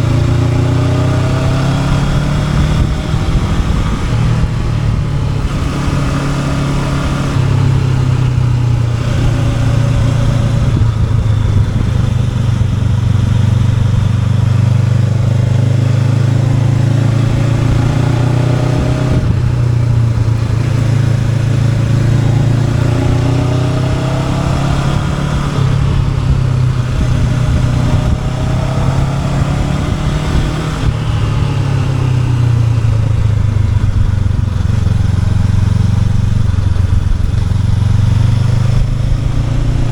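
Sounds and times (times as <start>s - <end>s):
motorcycle engine changing gears: 0.0s - 39.9s.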